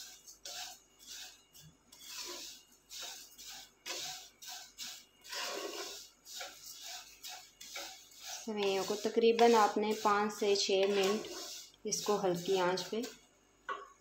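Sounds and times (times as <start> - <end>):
spatula stirring vermicelli in wok: 0.0 - 13.3.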